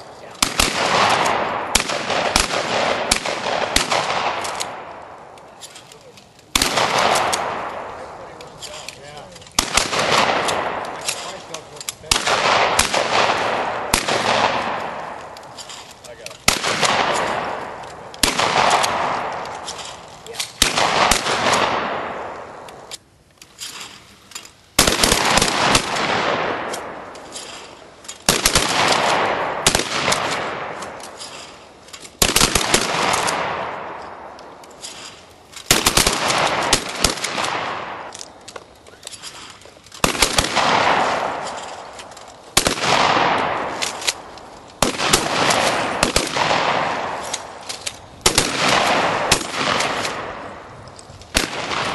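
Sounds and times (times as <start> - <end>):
shotgun shots echoing: 0.2 - 5.4, 6.5 - 22.9, 24.8 - 38.3, 40.0 - 50.7, 51.3 - 51.9.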